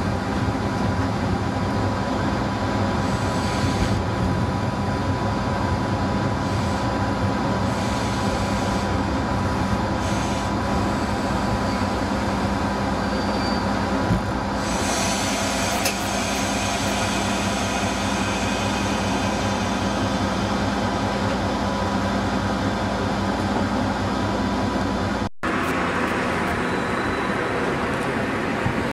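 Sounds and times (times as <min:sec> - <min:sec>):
railcar running noise: 0:00.0 - 0:28.9.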